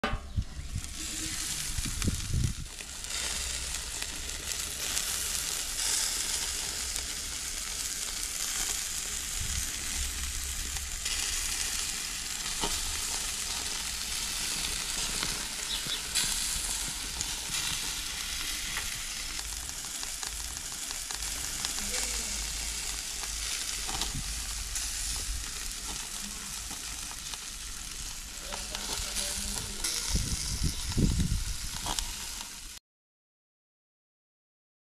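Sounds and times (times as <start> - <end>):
meat sizzling on a grill: 0.5 - 32.8.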